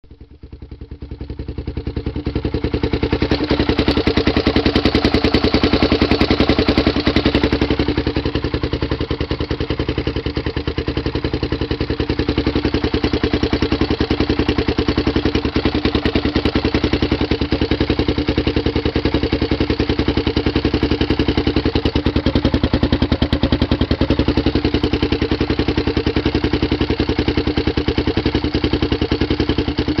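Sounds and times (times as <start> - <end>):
atv engine idling: 0.0 - 30.0
engine valvetrain ticking: 0.6 - 30.0.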